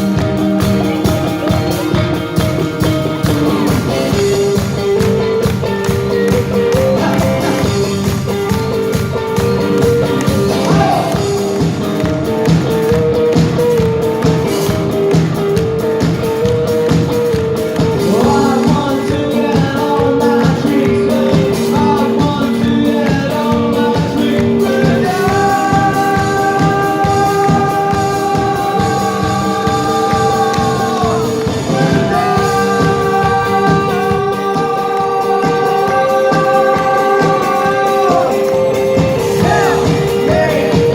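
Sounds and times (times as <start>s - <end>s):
band playing a song: 0.0s - 40.9s
person singing: 0.2s - 15.0s, 16.6s - 40.9s.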